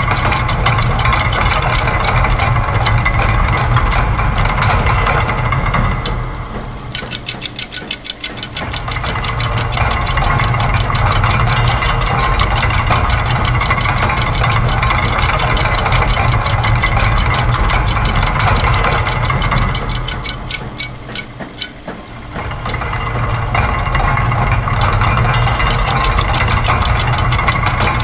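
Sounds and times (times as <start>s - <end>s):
low mechanical hum: 0.0s - 28.0s
rapid machine clicks: 0.0s - 28.0s.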